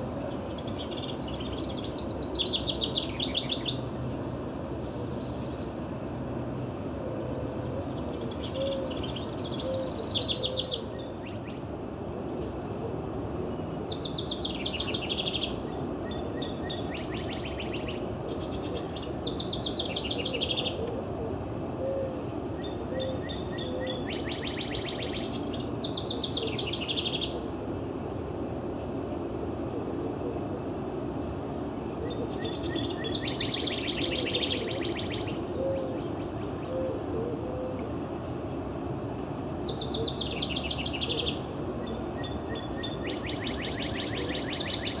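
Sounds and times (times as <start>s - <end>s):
wren singing: 0.0s - 28.1s, 31.1s - 37.9s, 39.0s - 45.0s.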